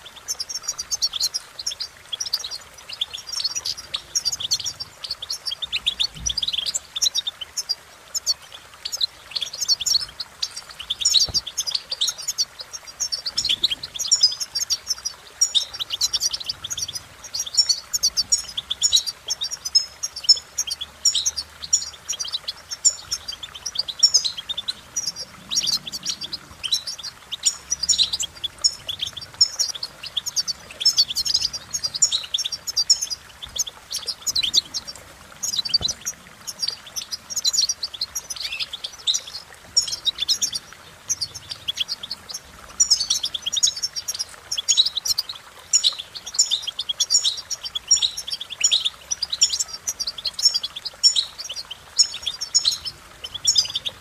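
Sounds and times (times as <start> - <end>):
goldfinch singing: 0.0 - 54.0.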